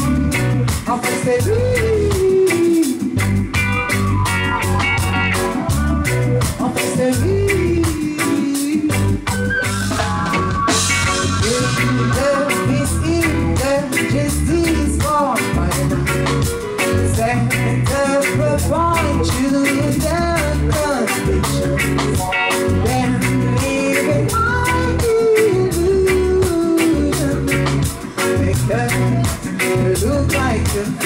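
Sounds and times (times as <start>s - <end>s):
woman singing: 0.0s - 3.2s, 4.8s - 9.2s, 11.4s - 16.1s, 17.0s - 31.0s
reggae band playing: 0.0s - 31.0s.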